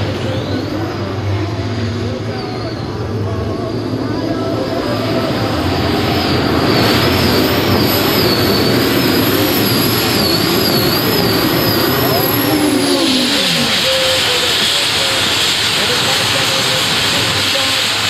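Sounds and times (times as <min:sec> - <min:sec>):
high wavering whine: 0:00.0 - 0:18.0
pulling tractor engine roaring: 0:00.0 - 0:18.0.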